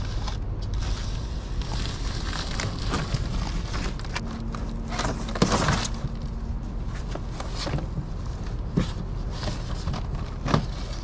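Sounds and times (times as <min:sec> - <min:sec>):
cardboard and foam rustling: 0:00.0 - 0:11.0
steady low rumble: 0:00.0 - 0:11.0.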